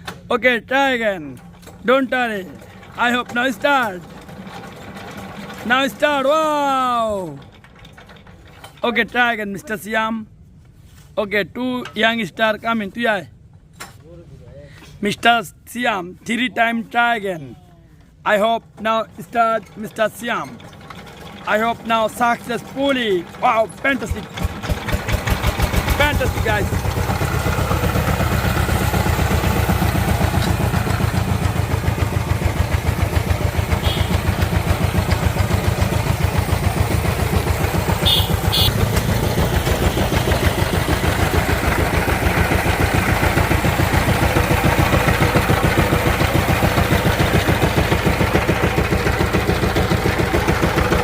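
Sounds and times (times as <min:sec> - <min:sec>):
diesel engine running: 0:00.0 - 0:10.9, 0:19.0 - 0:51.0.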